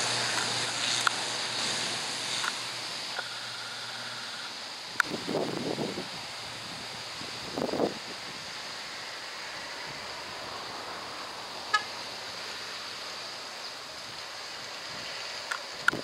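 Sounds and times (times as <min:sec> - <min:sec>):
turboprop engines rushing: 0:00.0 - 0:16.0.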